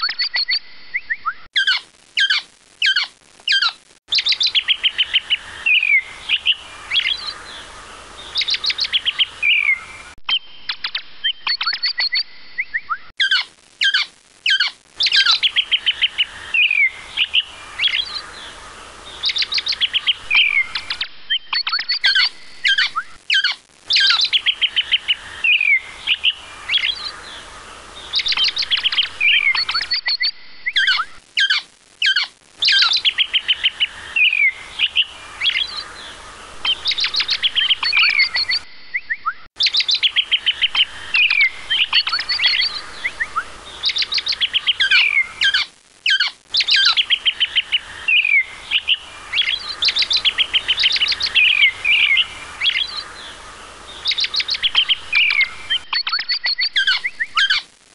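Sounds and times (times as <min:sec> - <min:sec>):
songbird trills and whistles: 0:00.0 - 0:07.4, 0:08.3 - 0:18.2, 0:19.2 - 0:27.2, 0:28.1 - 0:35.9, 0:36.6 - 0:53.1, 0:54.0 - 0:57.6.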